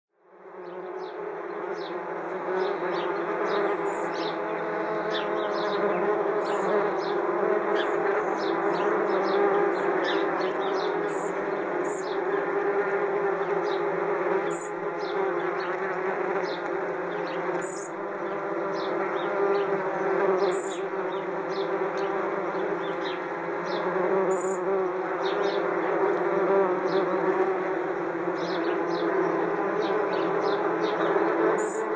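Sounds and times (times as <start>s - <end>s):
wasps buzzing: 0.4s - 31.9s
sparrows chirping: 0.6s - 12.6s, 13.3s - 27.2s, 28.4s - 31.9s.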